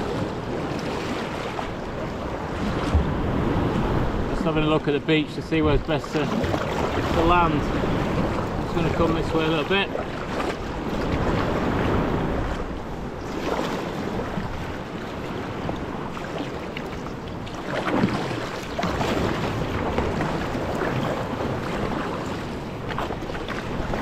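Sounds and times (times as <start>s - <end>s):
paddle blades splashing: 0.0s - 24.0s
water sloshing around hull: 0.0s - 24.0s
waves breaking: 0.0s - 24.0s
wind buffeting microphone: 0.0s - 24.0s.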